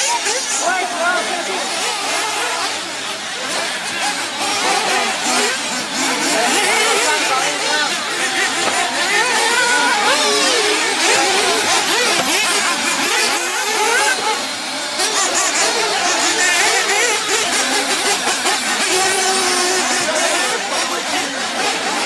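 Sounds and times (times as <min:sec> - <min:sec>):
small engines revving: 0:00.0 - 0:22.0.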